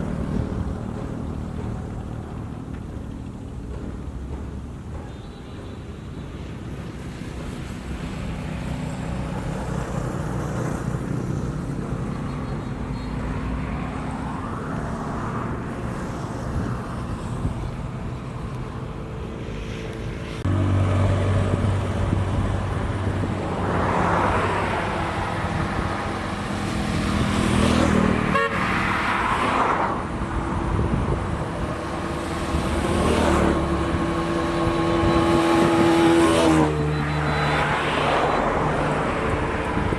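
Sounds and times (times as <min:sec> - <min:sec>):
steady engine hum: 0:00.0 - 0:39.9
vehicles passing by: 0:00.0 - 0:39.9.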